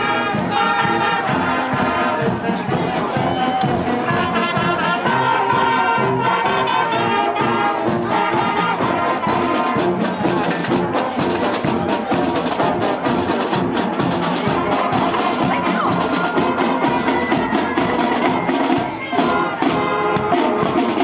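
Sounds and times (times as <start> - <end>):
marching band playing: 0.0 - 21.0
steady drum beat: 0.0 - 21.0.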